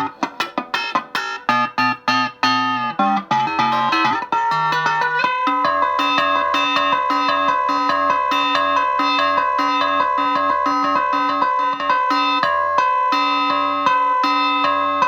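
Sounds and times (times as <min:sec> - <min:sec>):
ring-modulated electric guitar: 0:00.0 - 0:15.0.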